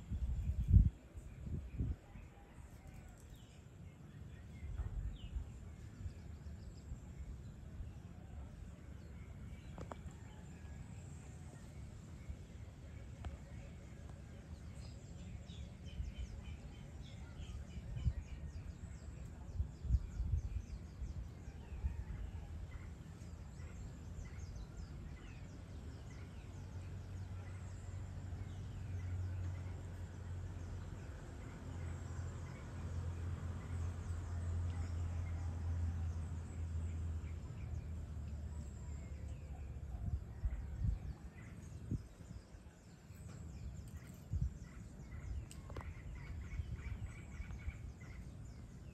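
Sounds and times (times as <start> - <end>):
steady low rumble: 3.4 - 48.9.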